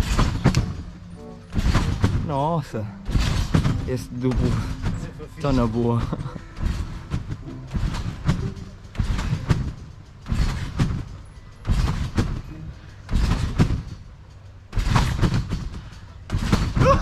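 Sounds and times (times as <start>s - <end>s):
trampoline landing thuds: 0.0s - 14.1s, 14.7s - 17.0s.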